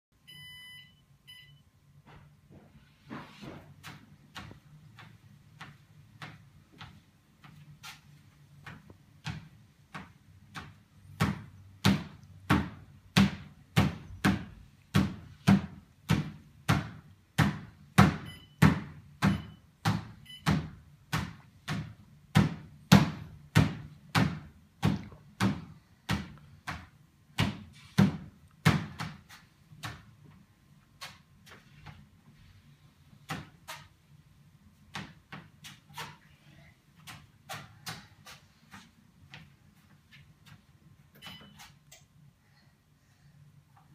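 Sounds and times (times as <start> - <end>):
treadmill hum: 0.2 - 43.9
bare feet thudding on treadmill: 2.0 - 41.8.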